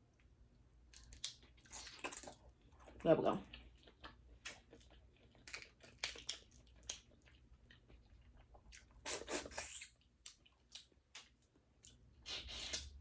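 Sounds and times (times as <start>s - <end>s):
wet mouth clicks and chewing: 1.0s - 13.0s.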